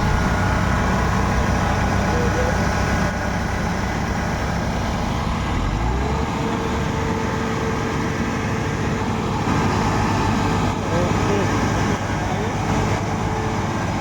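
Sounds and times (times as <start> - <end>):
diesel engine running with whine: 0.0 - 14.0.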